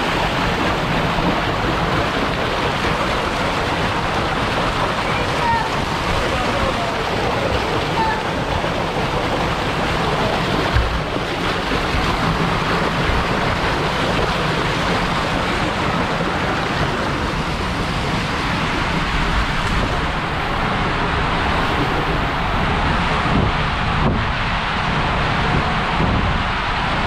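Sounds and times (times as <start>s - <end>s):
water rushing down waterslide: 0.0s - 27.0s.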